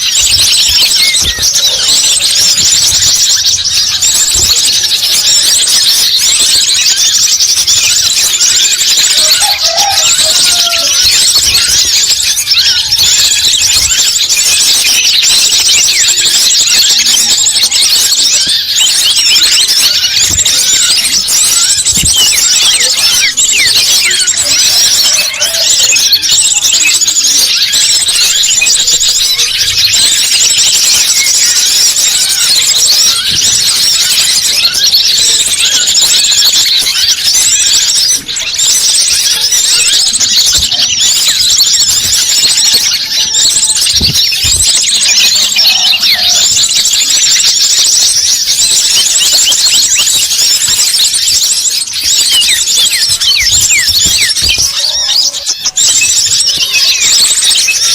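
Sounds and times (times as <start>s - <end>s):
small birds twittering: 0.0s - 57.9s.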